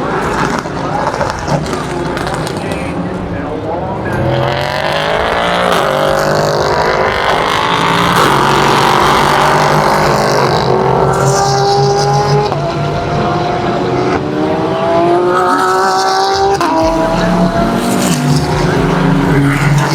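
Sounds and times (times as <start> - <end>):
racing car engines revving: 0.0 - 19.9.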